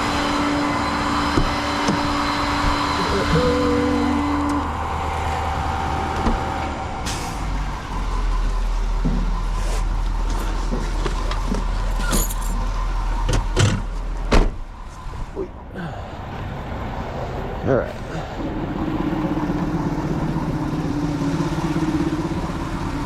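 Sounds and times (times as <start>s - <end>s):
truck engine humming: 0.0s - 23.0s.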